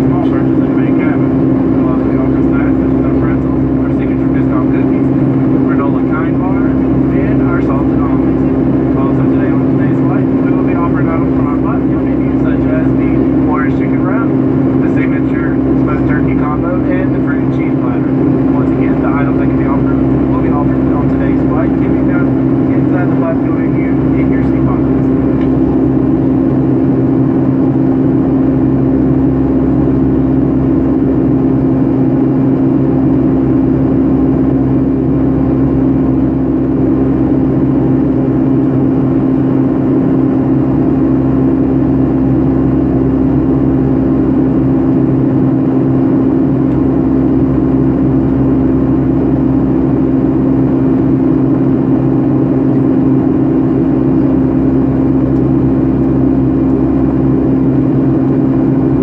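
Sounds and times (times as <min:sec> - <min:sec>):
jet cabin engine drone: 0:00.0 - 0:59.0.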